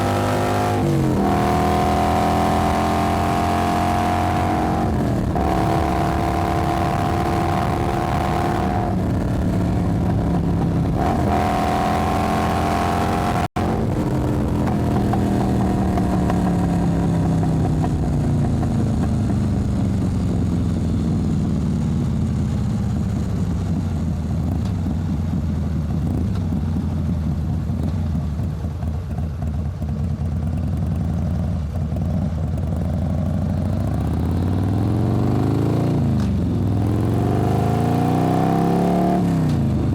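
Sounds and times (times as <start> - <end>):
motorcycle engine changing gears: 0.0 - 39.9.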